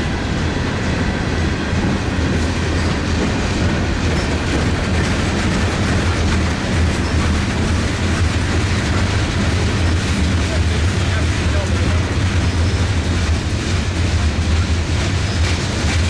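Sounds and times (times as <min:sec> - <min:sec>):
train wheels rumbling on rail: 0:00.0 - 0:16.0
wheels clicking over rail joints: 0:01.8 - 0:16.0.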